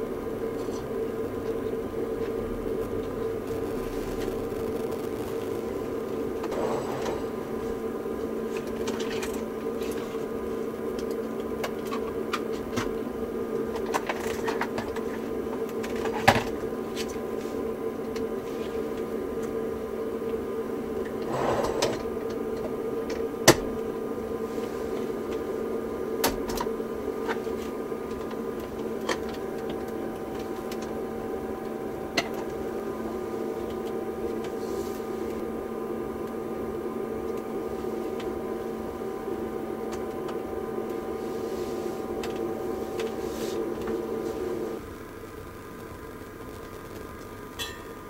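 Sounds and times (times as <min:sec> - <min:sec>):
fans and equipment humming: 0:00.0 - 0:48.0.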